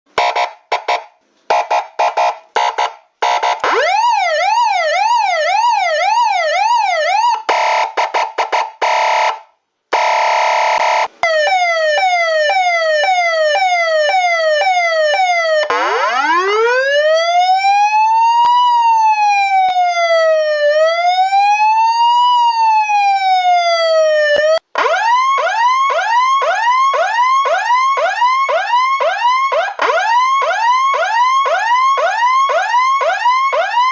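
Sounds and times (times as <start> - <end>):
electronic emergency siren: 0.2 - 33.9.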